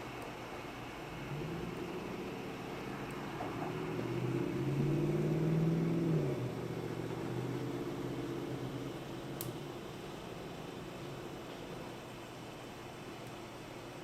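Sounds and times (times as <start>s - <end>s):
stepper motors humming: 0.0s - 12.3s
fan whirring: 0.0s - 14.0s.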